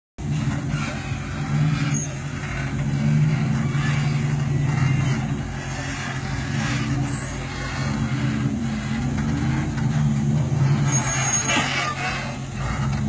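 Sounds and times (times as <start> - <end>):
suv engine revving under load: 0.2 - 13.0.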